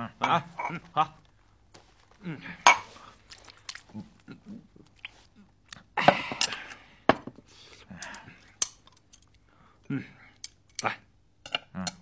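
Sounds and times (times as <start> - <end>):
people chewing: 0.0 - 10.8.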